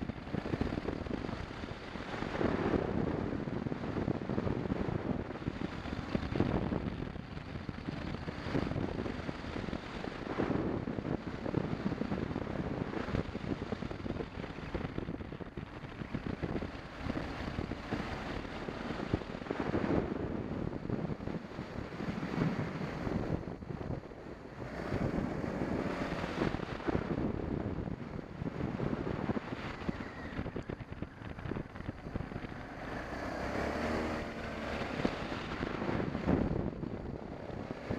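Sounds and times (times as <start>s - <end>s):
motorcycle engine running: 0.0s - 37.9s
wind buffeting microphone: 0.0s - 37.9s.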